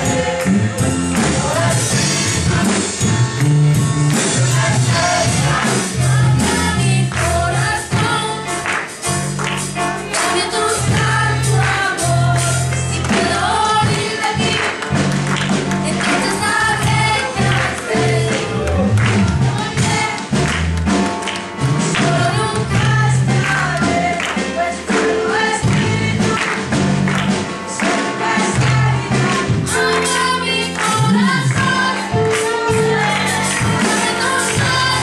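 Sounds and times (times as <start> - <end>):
choir singing gospel: 0.0 - 20.6, 21.3 - 35.0
instrumental accompaniment with beat: 0.0 - 35.0.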